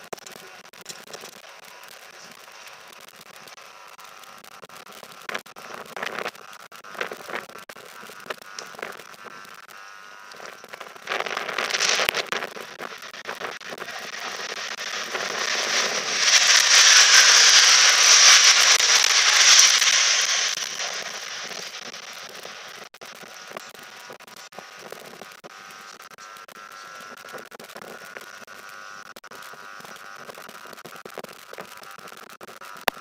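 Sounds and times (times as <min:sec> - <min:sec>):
crackles: 0:00.0 - 0:33.0.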